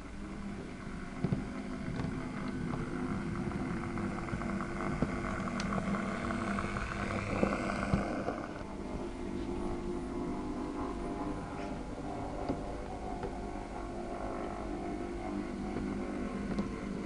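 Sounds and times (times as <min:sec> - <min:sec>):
model train motor hum: 0:00.0 - 0:17.0.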